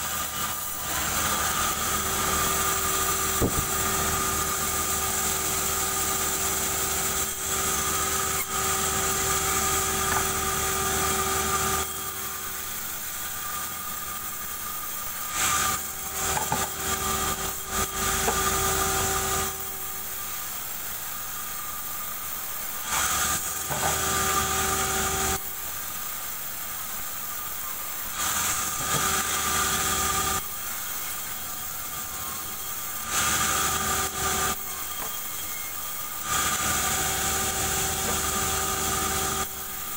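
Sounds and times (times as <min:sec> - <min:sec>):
band saw cutting wood: 0:00.0 - 0:26.1, 0:27.3 - 0:39.9
band saw running idle: 0:00.0 - 0:39.9.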